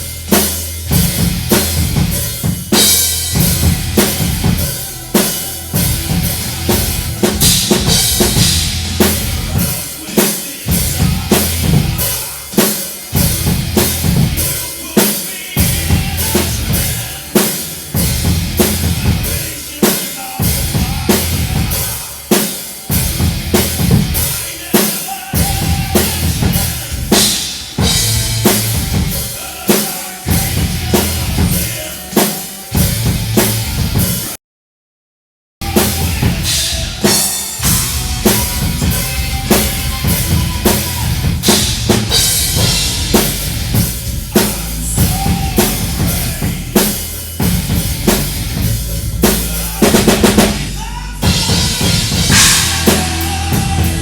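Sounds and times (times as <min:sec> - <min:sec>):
cymbals: 0:00.0 - 0:34.4, 0:35.6 - 0:54.0
drum kit heavy metal beat: 0:00.0 - 0:34.4, 0:35.6 - 0:54.0.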